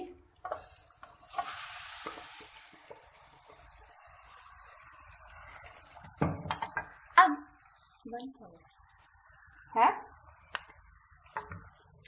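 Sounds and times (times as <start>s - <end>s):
liver sizzling in hot oil: 0.0s - 12.0s.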